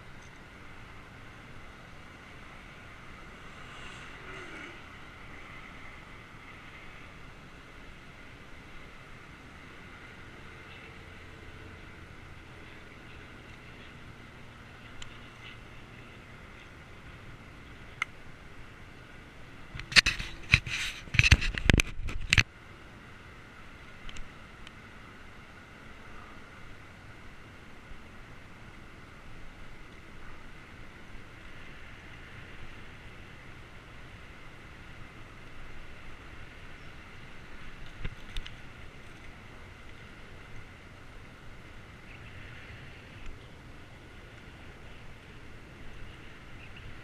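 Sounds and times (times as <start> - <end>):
bicycle road noise: 0.0 - 47.0
steady low hiss: 0.0 - 47.0.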